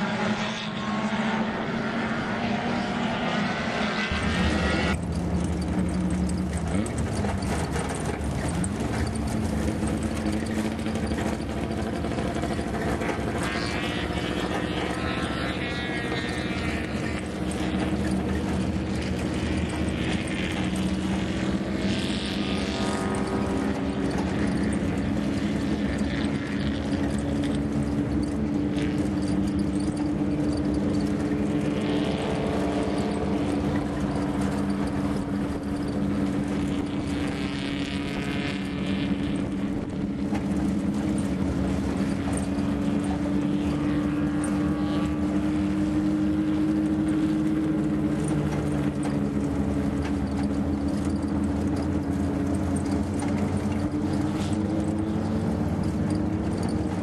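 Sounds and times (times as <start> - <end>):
vehicle engines droning: 0.0 - 57.0
tyres on gravel: 4.2 - 57.0.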